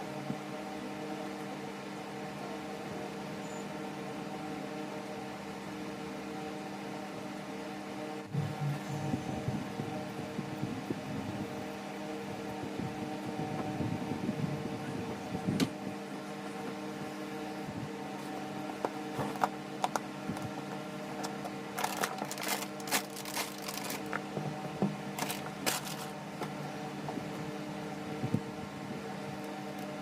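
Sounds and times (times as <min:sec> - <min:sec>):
table fan humming: 0:00.0 - 0:30.0.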